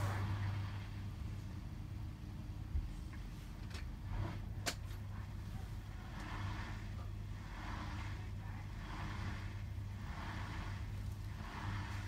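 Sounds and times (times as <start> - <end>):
water and laundry sloshing: 0.0 - 1.9, 2.7 - 12.0
washing machine motor hum: 0.0 - 12.0.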